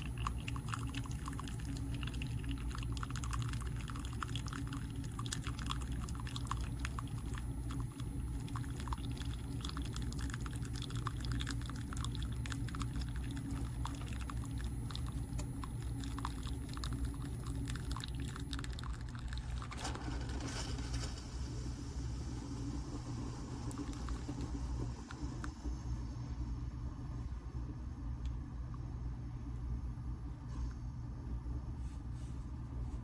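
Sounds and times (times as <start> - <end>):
coffee maker brewing: 0.0 - 26.5.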